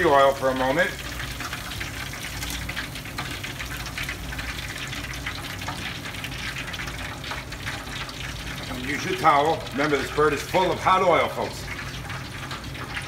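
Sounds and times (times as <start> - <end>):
hot oil sizzling and dripping: 0.0 - 13.0.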